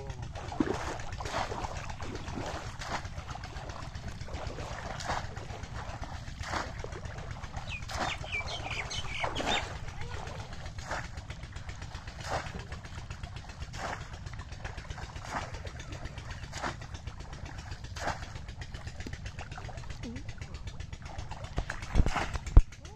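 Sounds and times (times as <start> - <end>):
fish trap splashing into water: 0.3 - 19.9.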